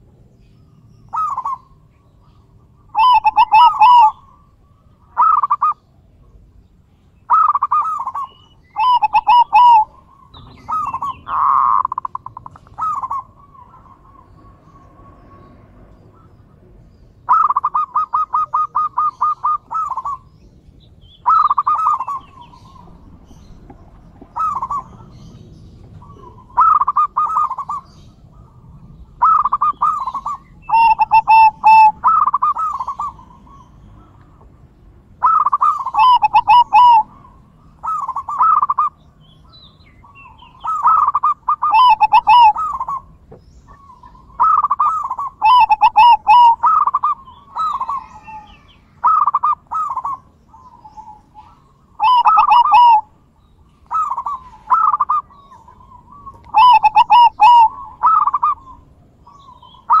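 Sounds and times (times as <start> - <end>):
doves cooing: 1.0 - 6.5, 7.2 - 60.0.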